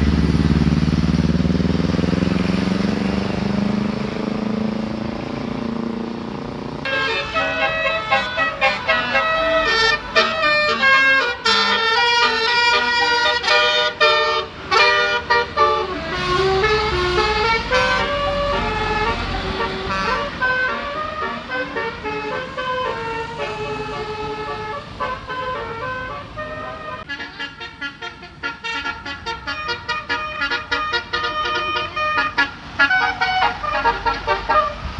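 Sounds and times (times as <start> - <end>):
musical air horn melody: 6.8 - 34.9.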